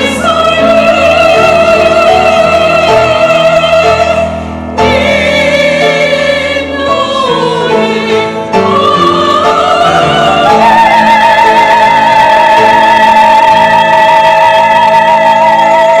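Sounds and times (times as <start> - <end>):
choir singing a hymn: 0.0 - 16.0
piano accompaniment: 0.0 - 16.0.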